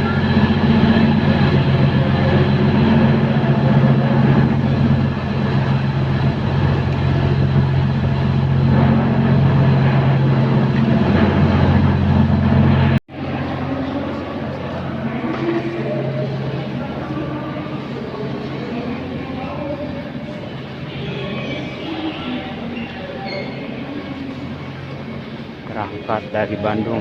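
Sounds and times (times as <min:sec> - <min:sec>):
rumbling noise: 0:00.0 - 0:27.0
train engine humming: 0:00.0 - 0:27.0.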